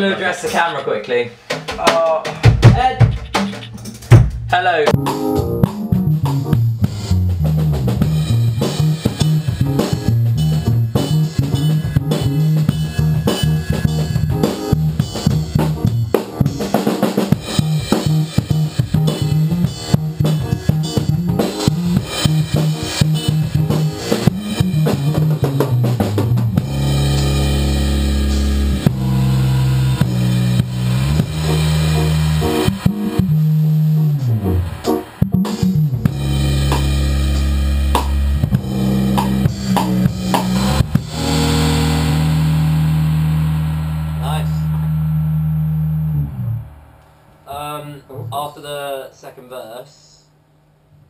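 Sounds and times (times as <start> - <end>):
drum kit playing busy beat: 0.0 - 45.8
electric keyboard: 4.9 - 46.8
electric bass line: 4.9 - 48.5.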